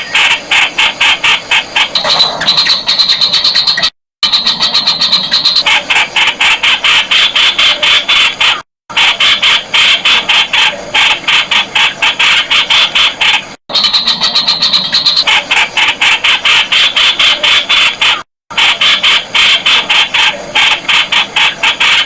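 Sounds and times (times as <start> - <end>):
bird harsh chatter: 0.0 - 22.0.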